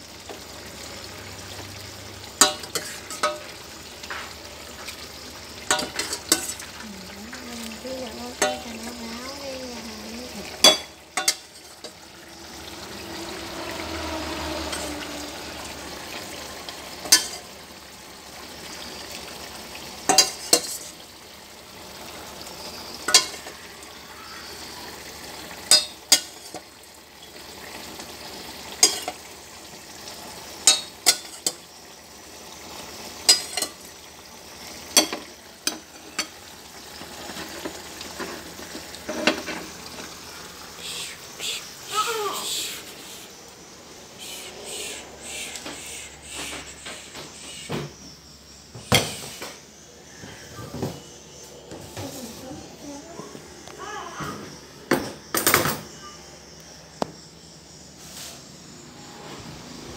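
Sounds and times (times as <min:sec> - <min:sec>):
meat sizzling in a pan: 0:00.0 - 0:53.0.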